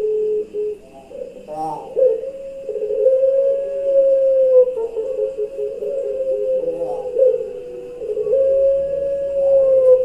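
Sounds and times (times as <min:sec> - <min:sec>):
dove cooing: 0:00.0 - 0:10.0.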